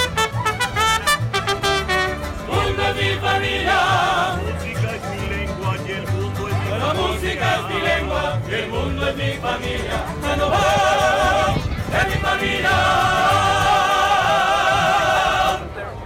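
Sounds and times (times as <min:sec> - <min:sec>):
bass line: 0:00.0 - 0:15.8
mariachi band playing: 0:00.0 - 0:16.0
people singing with vibrato: 0:01.9 - 0:04.9, 0:05.8 - 0:15.9.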